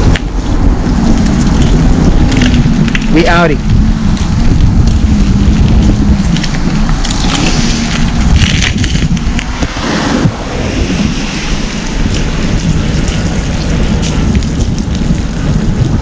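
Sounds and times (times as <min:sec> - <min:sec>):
low rumble: 0:00.0 - 0:16.0
wind buffeting microphone: 0:00.0 - 0:16.0.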